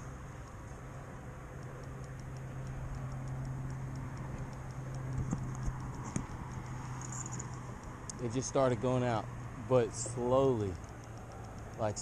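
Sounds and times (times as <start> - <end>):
steady low hum: 0.0 - 12.0
fishing reel drag ticking: 0.2 - 9.0, 9.9 - 12.0.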